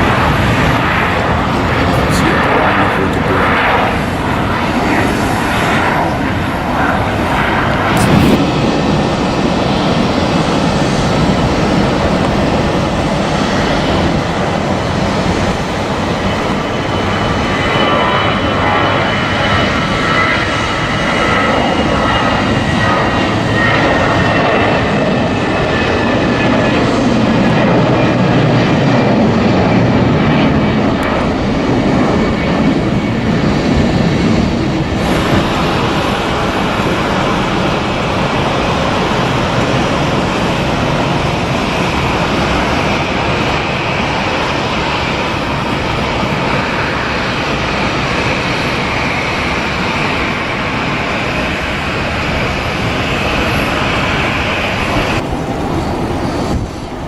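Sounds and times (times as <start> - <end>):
jet engine whine falling: 0.0 - 57.0
loud steady engine noise: 0.0 - 57.0.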